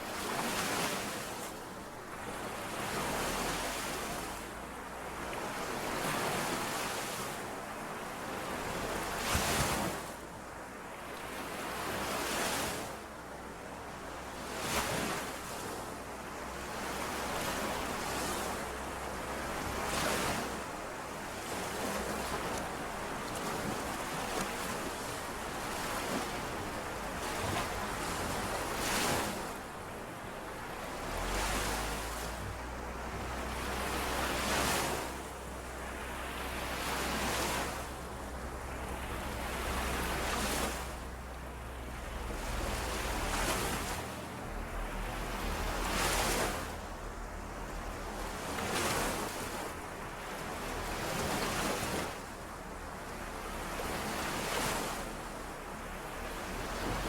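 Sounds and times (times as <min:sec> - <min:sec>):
small waves washing on shore: 0:00.0 - 0:57.0.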